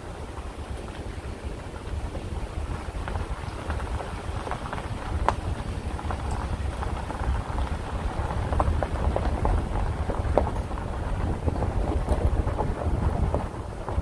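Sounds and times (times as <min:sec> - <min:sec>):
gravel crackling under tyres: 0:00.0 - 0:14.0.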